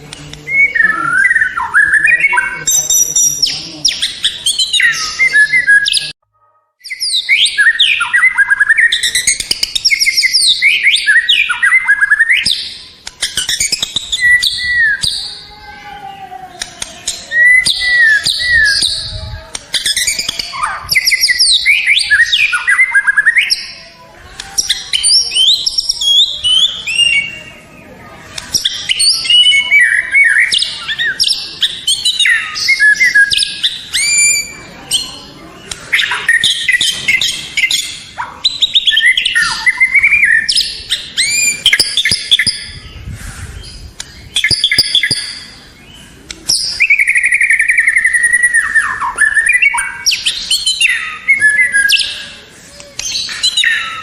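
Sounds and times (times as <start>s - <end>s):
songbird whistling and chattering: 0.1s - 6.2s, 6.8s - 15.6s, 16.5s - 54.0s.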